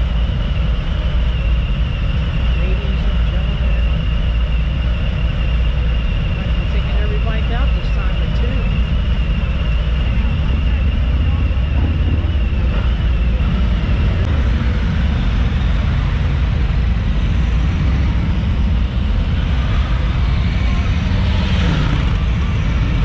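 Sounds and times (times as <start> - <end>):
motorcycle engine rumbling: 0.0 - 23.0.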